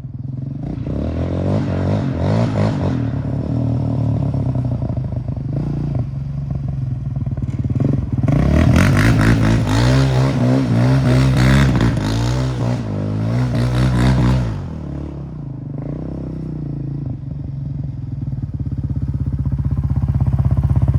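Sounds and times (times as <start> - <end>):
quad engine idling and revving: 0.0 - 20.9.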